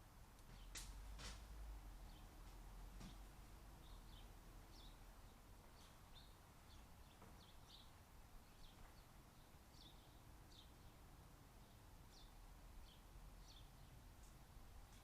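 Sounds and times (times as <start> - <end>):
low background hiss: 0.0 - 15.0
small birds chirping: 1.9 - 15.0.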